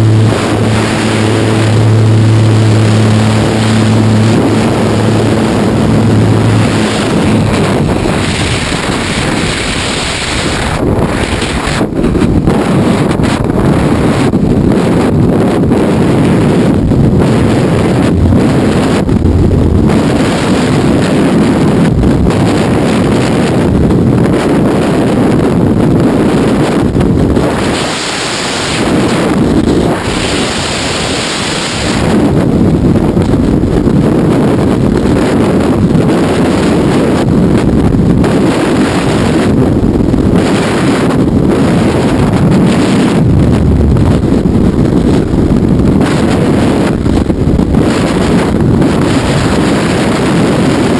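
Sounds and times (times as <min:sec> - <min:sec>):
freefall wind rushing: 0:00.0 - 0:50.9.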